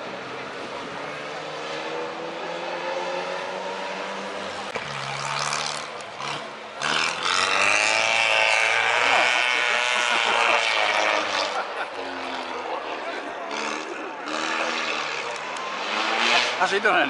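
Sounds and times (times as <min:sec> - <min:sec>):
car engine passing close: 0:00.0 - 0:17.0
racing car engine pulling uphill: 0:00.0 - 0:17.0.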